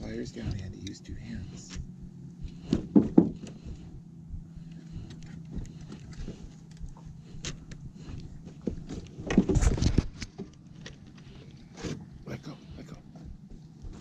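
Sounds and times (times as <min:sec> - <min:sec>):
small boat motor humming: 0:00.0 - 0:14.0.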